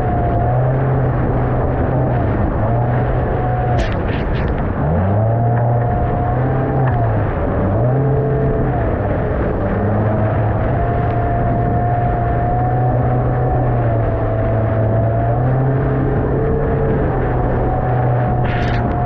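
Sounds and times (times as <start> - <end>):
outboard motor running: 0.0 - 19.0
rushing water noise: 0.0 - 19.0.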